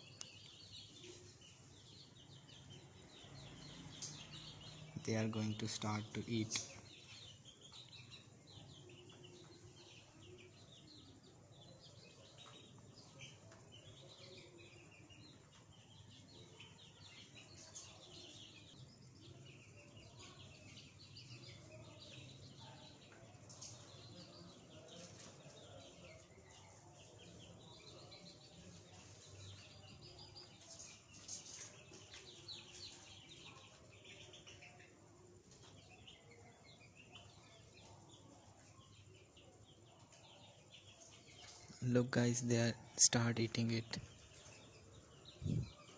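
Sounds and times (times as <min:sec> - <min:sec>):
young chicks peeping: 0:00.0 - 0:45.9.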